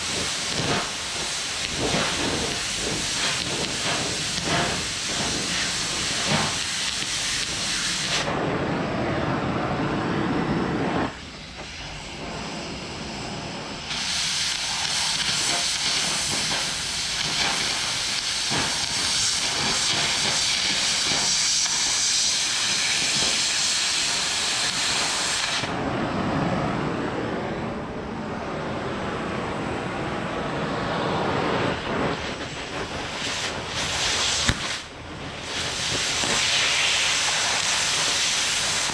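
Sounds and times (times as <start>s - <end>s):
cutting torch hissing: 0.0s - 26.0s, 30.6s - 38.9s.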